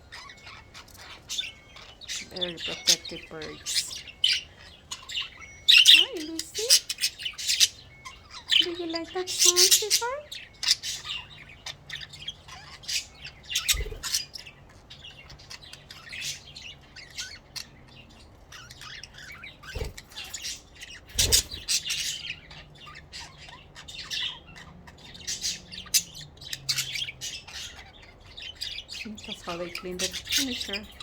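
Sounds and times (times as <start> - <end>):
budgerigars chirping and squawking: 0.0 - 31.0.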